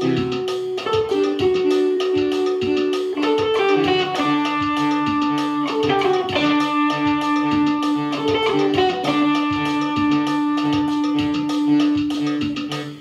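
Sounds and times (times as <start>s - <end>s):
electric guitar through amp: 0.0s - 13.0s
electronic keyboard playing: 0.0s - 13.0s.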